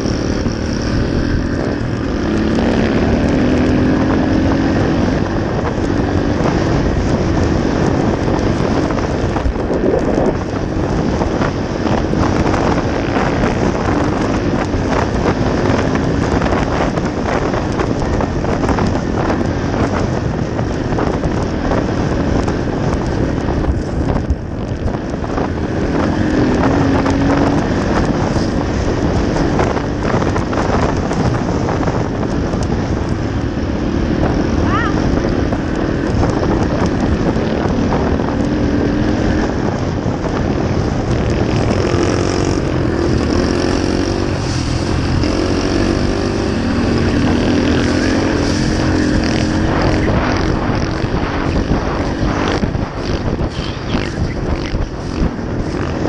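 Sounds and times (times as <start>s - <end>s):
dirt bike engine running: 0.0s - 56.0s
wind noise on microphone: 0.0s - 56.0s.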